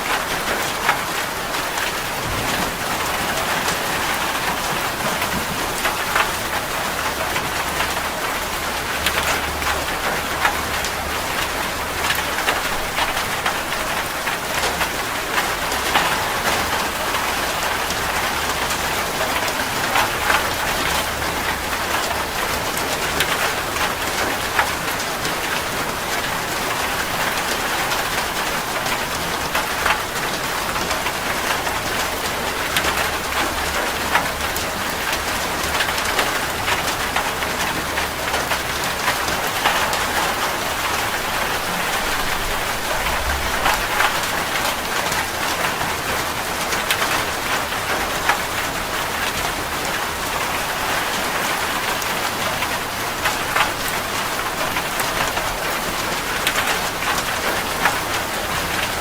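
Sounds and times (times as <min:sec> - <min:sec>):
heavy rain on metal roof: 0:00.0 - 0:59.0.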